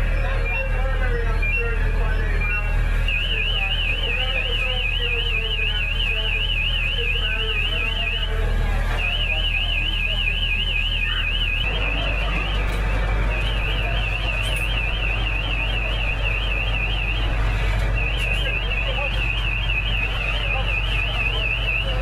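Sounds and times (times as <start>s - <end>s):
electronic alarm warbling: 0.0s - 22.0s
low rumble of idling engines: 0.0s - 22.0s.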